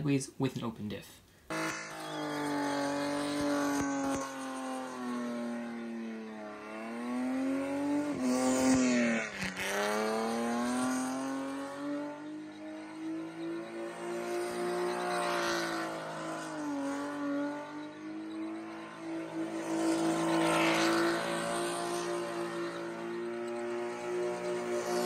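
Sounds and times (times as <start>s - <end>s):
car engine at high revs: 1.5s - 25.0s.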